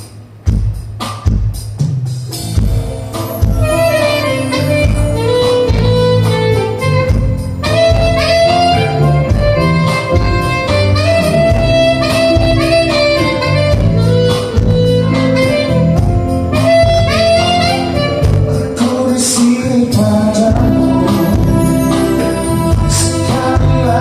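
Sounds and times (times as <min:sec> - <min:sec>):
bass: 0:00.0 - 0:24.0
steady drum beat: 0:00.0 - 0:24.0
melodic lead line: 0:02.4 - 0:24.0.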